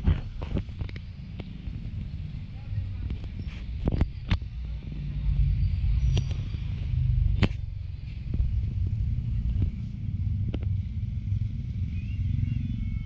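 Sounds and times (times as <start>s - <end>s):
rumble of street traffic: 0.0s - 13.0s.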